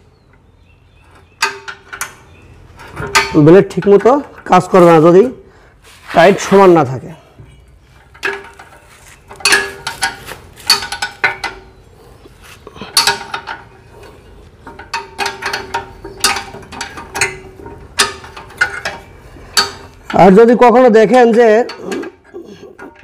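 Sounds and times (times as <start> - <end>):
spanner clinking on metal nuts: 1.0 - 5.2, 7.5 - 11.8, 12.8 - 23.0.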